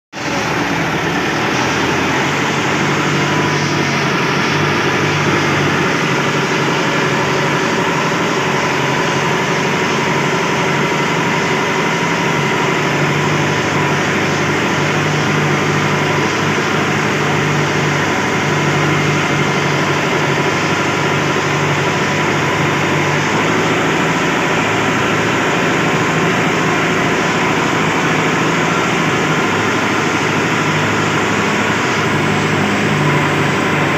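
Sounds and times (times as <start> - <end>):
sawmill machinery drone: 0.1 - 33.9.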